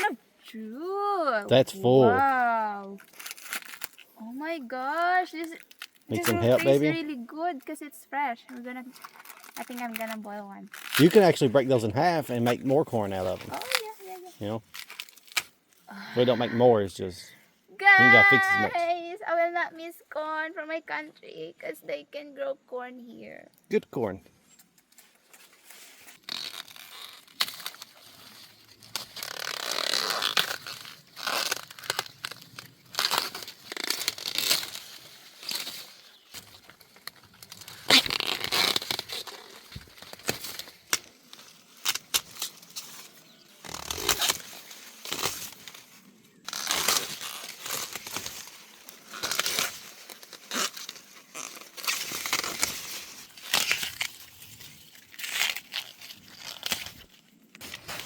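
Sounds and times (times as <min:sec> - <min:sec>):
corn stalks rustling and tearing: 0:01.5 - 0:16.7, 0:17.8 - 0:18.8, 0:24.9 - 0:58.0.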